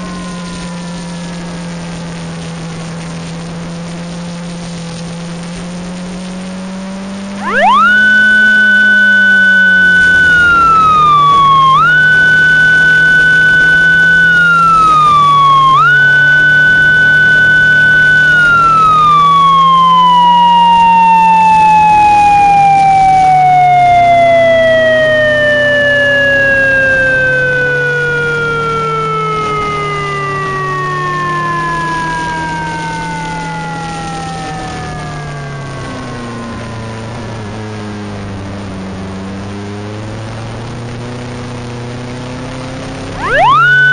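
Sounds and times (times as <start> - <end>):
low steady drone: 0.0 - 43.9
synthesized siren wail: 0.0 - 43.9.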